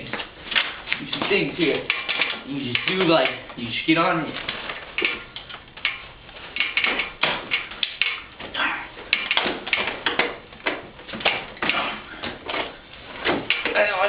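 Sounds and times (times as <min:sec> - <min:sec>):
irregular clicks and knocks: 0:00.0 - 0:03.6, 0:04.3 - 0:14.0.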